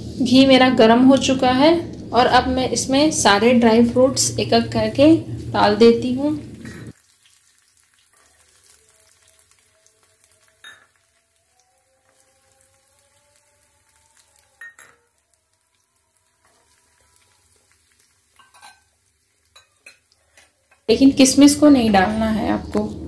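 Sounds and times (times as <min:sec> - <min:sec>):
ghee sizzling in a frying pan: 0:00.0 - 0:23.0.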